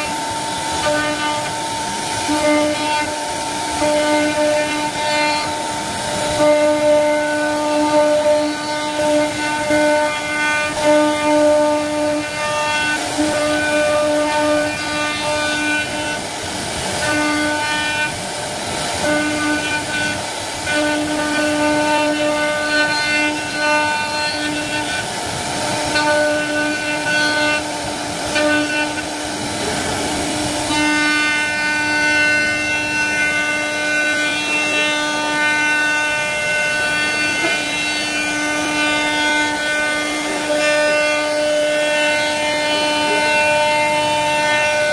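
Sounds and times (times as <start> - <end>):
hiss of wood cutting: 0.0 - 44.9
router spindle whine: 0.0 - 44.9.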